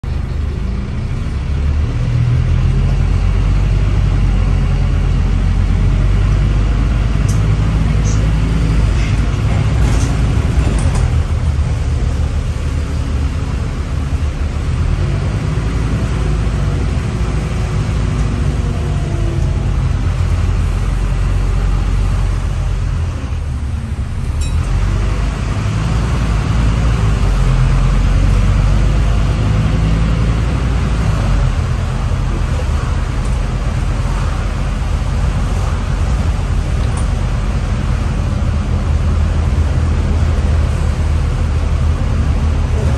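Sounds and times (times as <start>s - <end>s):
bus diesel engine rumble: 0.0s - 42.9s.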